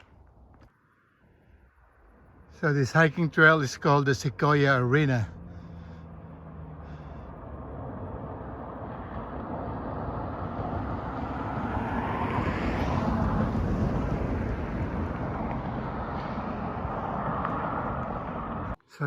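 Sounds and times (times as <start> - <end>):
passing vehicle rushing: 2.0 - 18.8.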